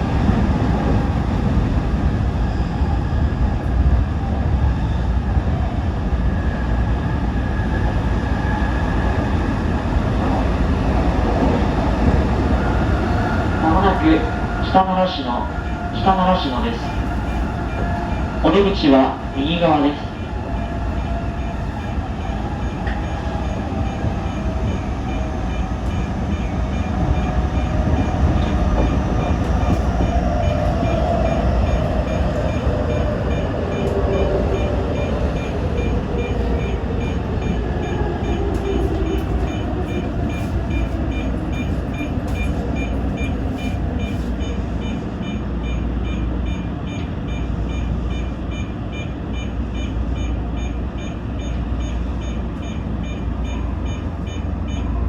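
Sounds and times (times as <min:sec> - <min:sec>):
train running gear rumble: 0:00.0 - 0:55.0.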